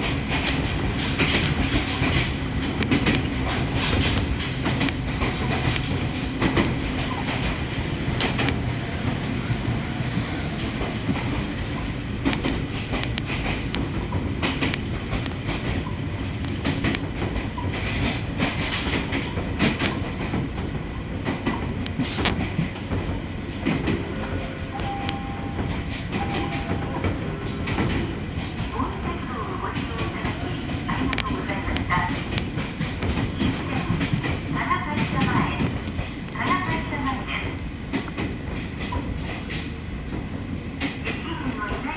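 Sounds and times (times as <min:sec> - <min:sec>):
train rumble inside carriage: 0:00.0 - 0:41.9
wheels clicking over rail joints: 0:00.0 - 0:41.9.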